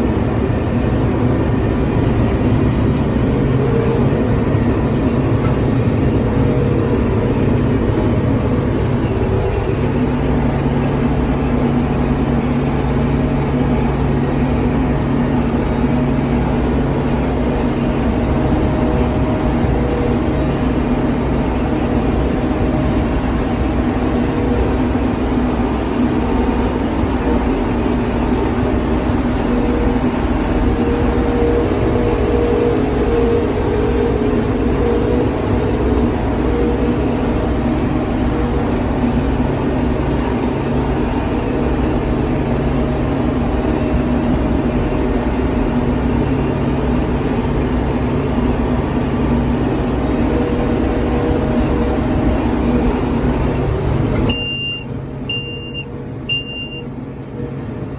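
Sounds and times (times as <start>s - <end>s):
baler machinery running: 0.0s - 57.9s
tractor diesel engine running: 0.0s - 57.9s.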